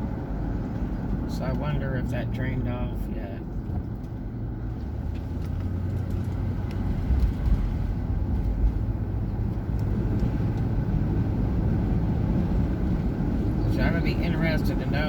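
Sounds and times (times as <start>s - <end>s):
car tyres and engine rumbling: 0.0s - 15.0s.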